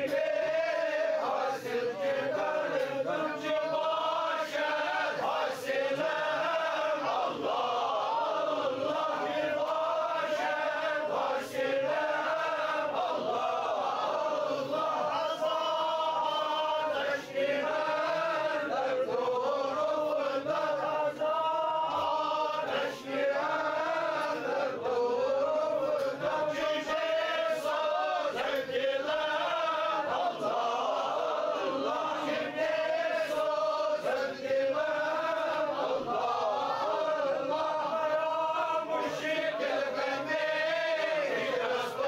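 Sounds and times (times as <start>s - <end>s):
men chanting together: 0.0s - 42.0s.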